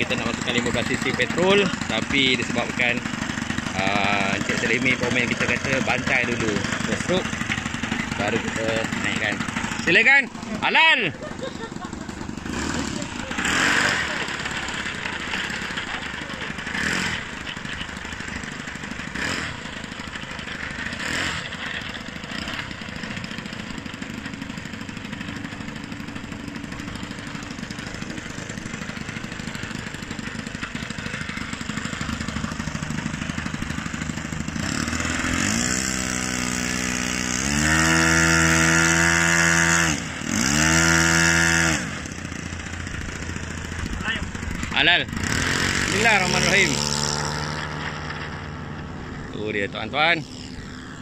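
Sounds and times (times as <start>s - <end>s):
model aircraft engine running: 0.0s - 51.0s.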